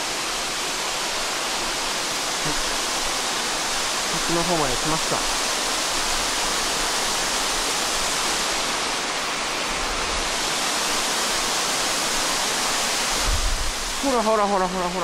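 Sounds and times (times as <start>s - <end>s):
waterfall crashing onto rocks: 0.0s - 15.0s.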